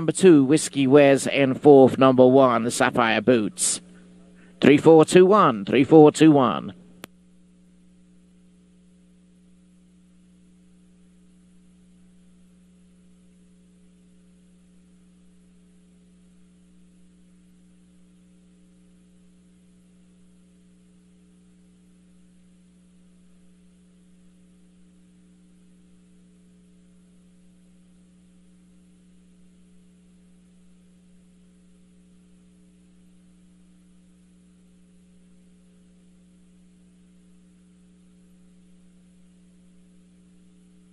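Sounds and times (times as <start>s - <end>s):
faint low hum: 0.0s - 40.9s.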